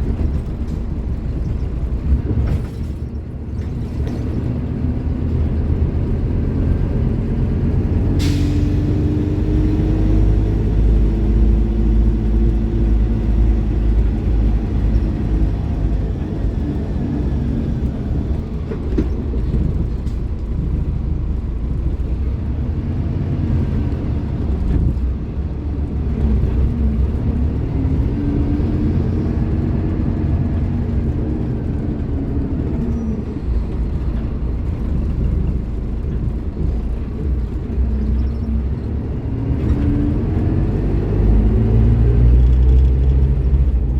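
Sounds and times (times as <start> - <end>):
bus diesel engine revving: 3.6 - 43.9.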